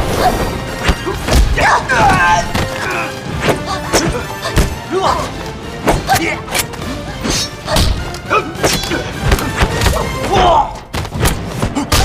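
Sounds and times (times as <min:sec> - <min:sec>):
background music: 0:00.0 - 0:12.0
fighters grunting and shouting: 0:00.2 - 0:10.9, 0:11.6 - 0:12.0.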